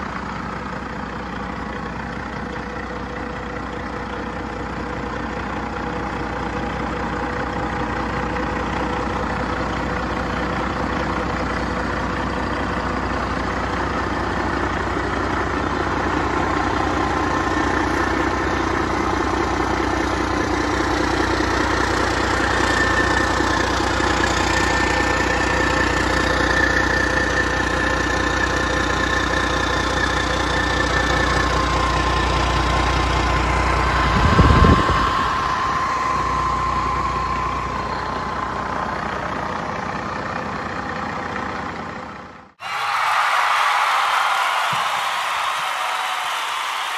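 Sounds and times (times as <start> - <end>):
turbocharger whine: 0.0 - 42.5
diesel engine idling: 0.0 - 42.6.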